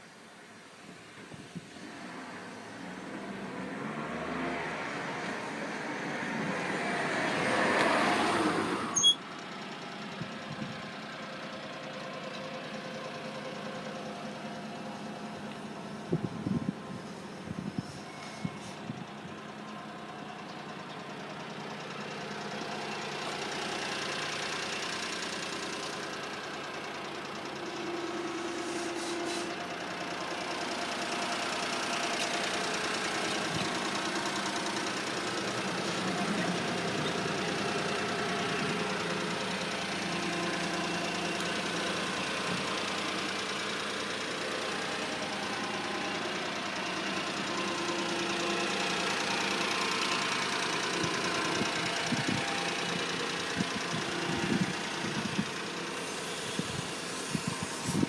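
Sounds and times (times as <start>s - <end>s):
small truck engine idling: 4.8s - 58.0s.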